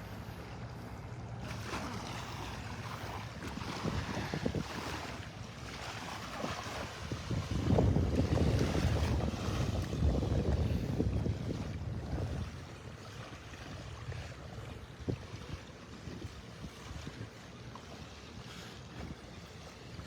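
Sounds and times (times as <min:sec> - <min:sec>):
gentle surf: 0:00.0 - 0:20.0
wind buffeting microphone: 0:01.4 - 0:20.0.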